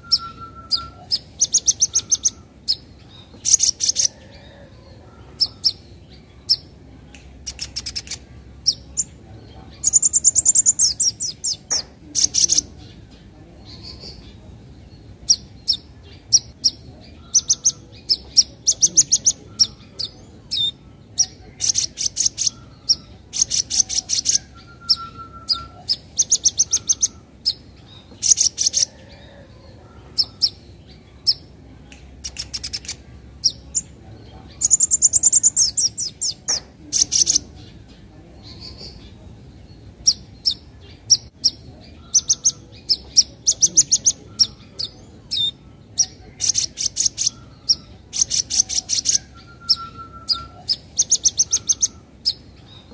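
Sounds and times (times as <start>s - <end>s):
bird chirping and chattering: 0.0s - 52.9s.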